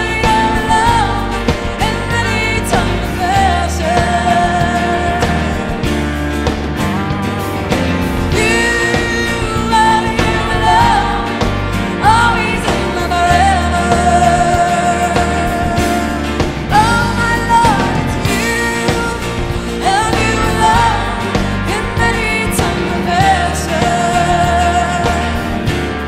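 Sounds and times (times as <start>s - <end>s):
full band accompaniment: 0.0s - 26.0s.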